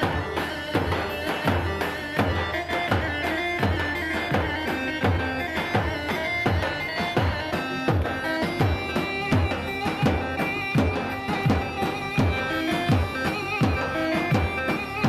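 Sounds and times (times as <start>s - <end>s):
drum beating steady rhythm: 0.0s - 15.0s
keyboard melody: 0.0s - 15.0s.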